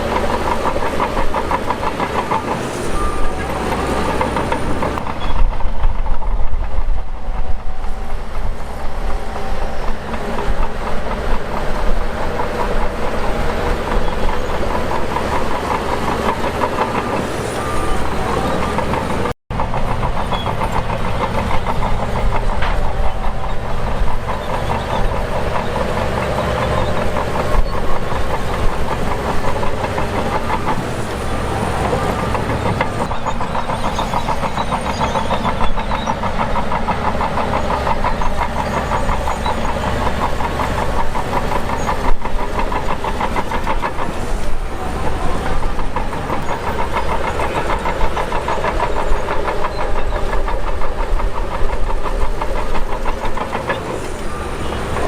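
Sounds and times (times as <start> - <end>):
bulldozer diesel engine clattering: 0.0 - 55.0.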